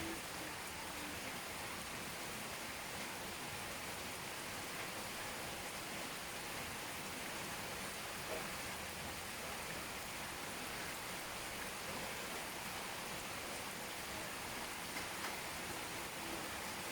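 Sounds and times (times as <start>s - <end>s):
rain falling steadily: 0.0s - 16.9s.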